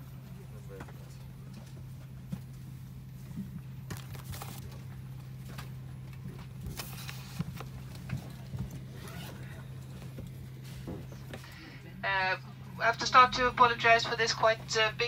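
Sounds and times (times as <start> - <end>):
low aircraft cabin hum: 0.0 - 15.0.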